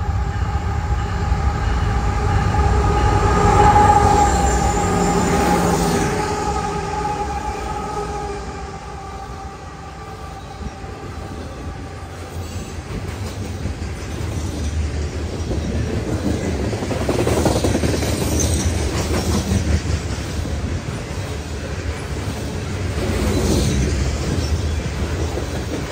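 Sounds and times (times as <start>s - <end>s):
diesel locomotive drone: 0.0s - 25.9s
train cars rumbling and rattling: 0.0s - 25.9s.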